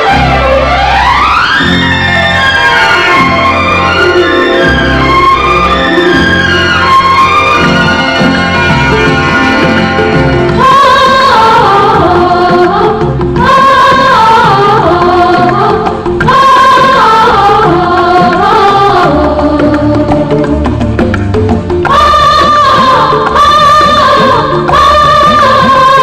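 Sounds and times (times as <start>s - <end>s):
film song lead melody: 0.0s - 26.0s.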